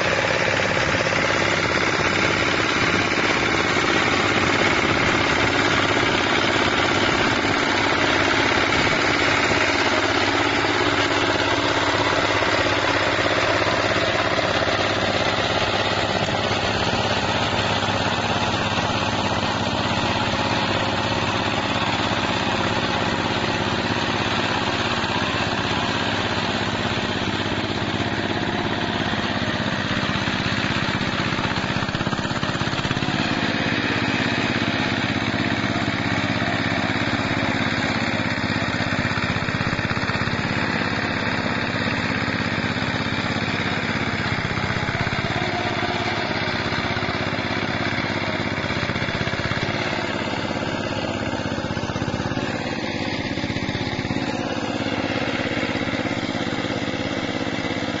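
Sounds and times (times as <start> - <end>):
small tractor engine running: 0.0 - 58.0.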